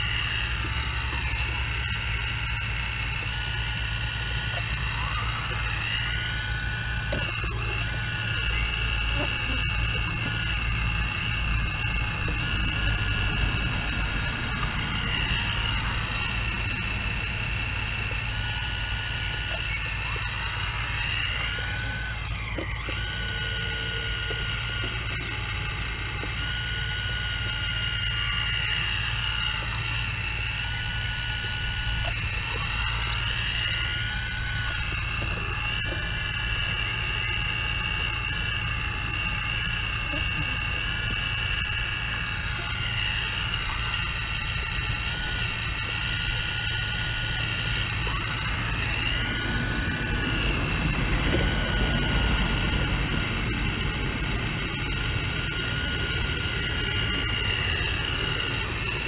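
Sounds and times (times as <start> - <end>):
diesel engine running: 0.0 - 26.5, 30.9 - 59.0
hydraulic whine shifting pitch: 0.0 - 59.0.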